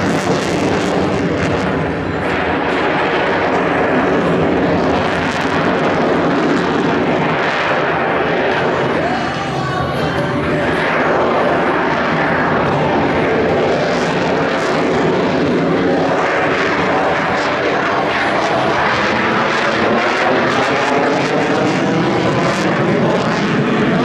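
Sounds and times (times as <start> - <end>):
airplane engine flying by: 0.0 - 24.0.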